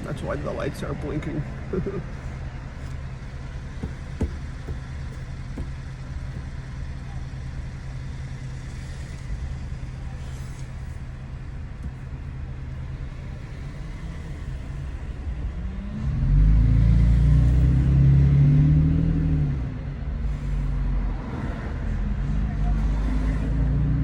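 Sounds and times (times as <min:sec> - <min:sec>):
truck engine and exhaust accelerating: 0:00.0 - 0:24.0.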